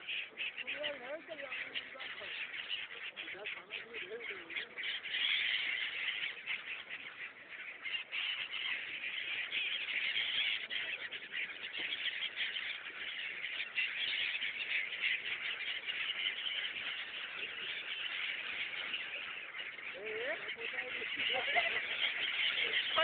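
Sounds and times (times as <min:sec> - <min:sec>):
flock of birds squawking: 0:00.0 - 0:23.0.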